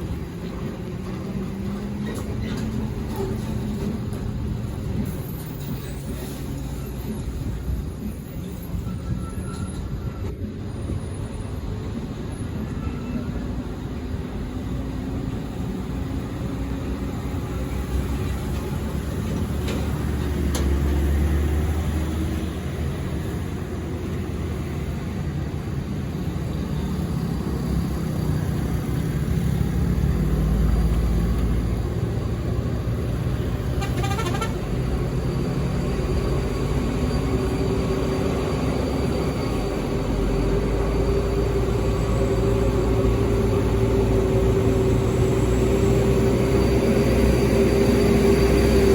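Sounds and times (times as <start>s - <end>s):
truck diesel engines rumbling: 0.0s - 48.9s.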